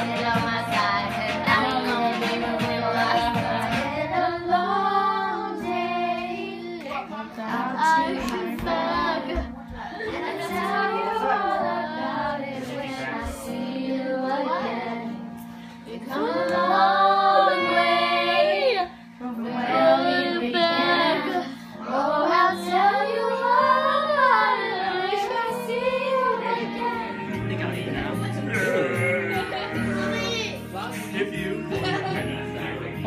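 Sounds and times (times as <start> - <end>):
girl singing: 0.0 - 15.3, 15.9 - 27.6, 28.7 - 31.0
karaoke backing track: 0.0 - 33.0.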